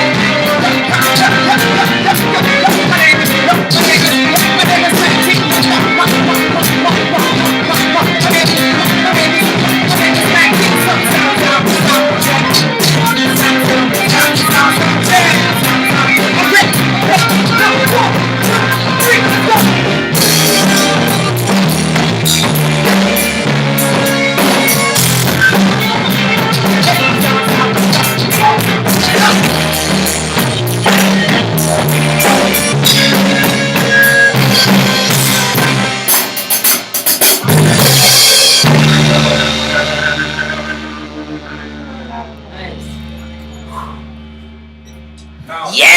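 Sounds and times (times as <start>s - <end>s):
person singing: 0.0s - 36.1s, 37.4s - 43.0s
bass: 0.0s - 45.9s
drum kit: 0.0s - 45.9s
guitar: 0.0s - 45.9s.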